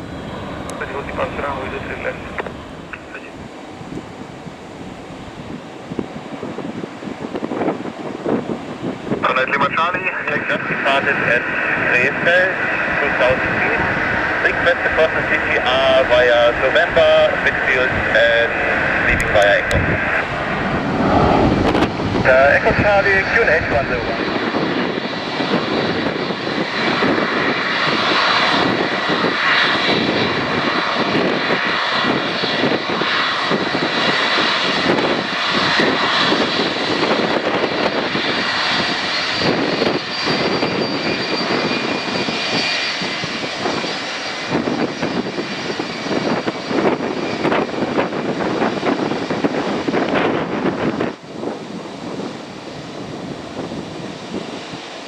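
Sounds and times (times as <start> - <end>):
airliner engines roaring with whine: 0.0 - 55.0
wind buffeting microphone: 0.0 - 55.0.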